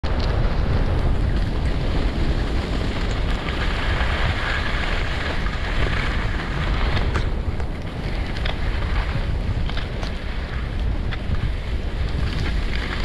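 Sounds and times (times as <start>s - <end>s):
skis gliding on snow: 0.0s - 13.0s
wind buffeting microphone: 0.0s - 13.0s.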